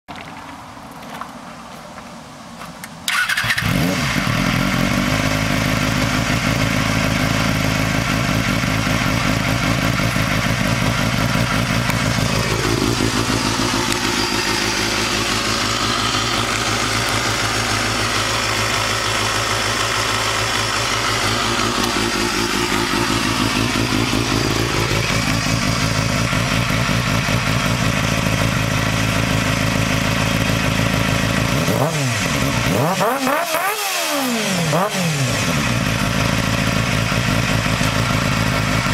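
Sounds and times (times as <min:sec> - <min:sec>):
motorcycle engine starting and idling: 0:03.0 - 0:38.9.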